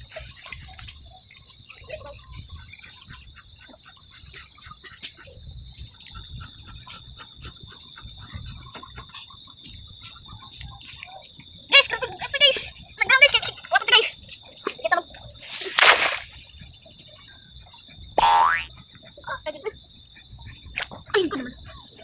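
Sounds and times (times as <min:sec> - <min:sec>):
animals trilling: 0:00.0 - 0:22.0.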